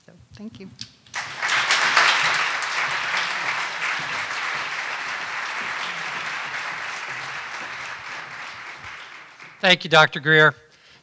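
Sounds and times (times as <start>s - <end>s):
audience applauding: 1.1s - 10.2s.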